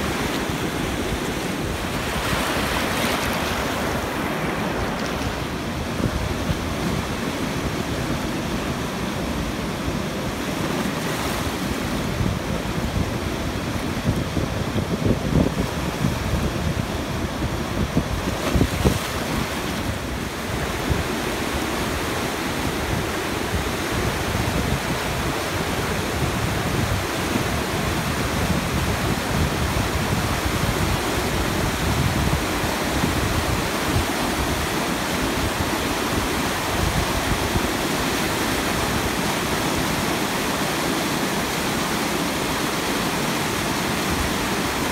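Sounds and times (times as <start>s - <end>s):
river rushing over boulders: 0.0s - 44.9s.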